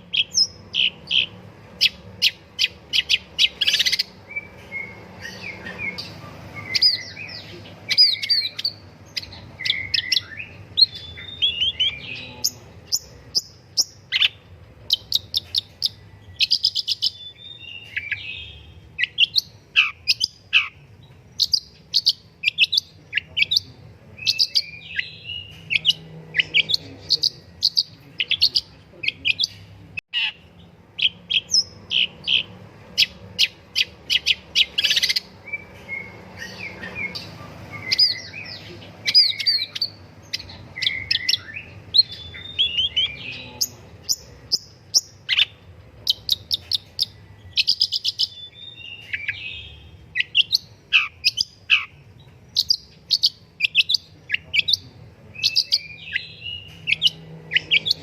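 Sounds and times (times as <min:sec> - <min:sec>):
bird chirping and chattering: 0:00.0 - 0:58.0.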